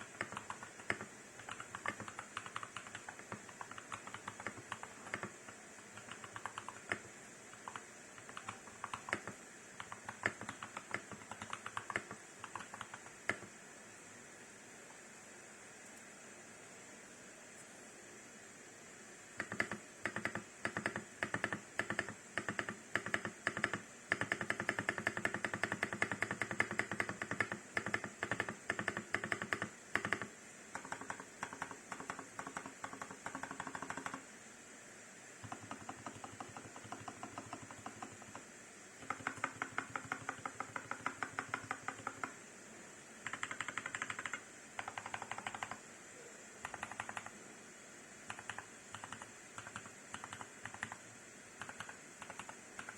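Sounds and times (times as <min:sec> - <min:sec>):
mechanical keyboard typing: 0:00.0 - 0:13.5, 0:19.4 - 0:34.2, 0:35.4 - 0:42.4, 0:43.2 - 0:45.8, 0:46.6 - 0:47.3, 0:48.3 - 0:51.0, 0:51.6 - 0:52.9
steady hiss: 0:00.0 - 0:52.9.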